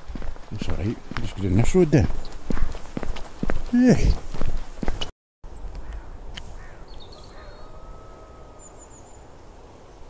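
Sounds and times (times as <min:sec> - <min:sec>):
wild birds calling: 0:00.0 - 0:09.6.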